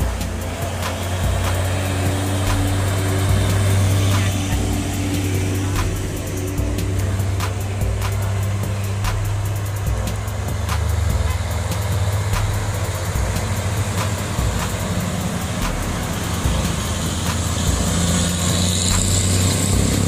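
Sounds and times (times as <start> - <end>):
diesel trucks driving past: 0.0 - 20.0
tyre and road noise: 0.0 - 20.0.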